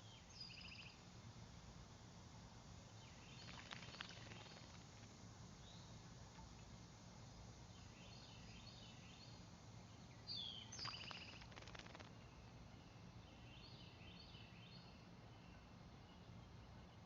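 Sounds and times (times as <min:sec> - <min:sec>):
low steady hum: 0:00.0 - 0:17.0
songbirds calling faintly: 0:00.0 - 0:17.0.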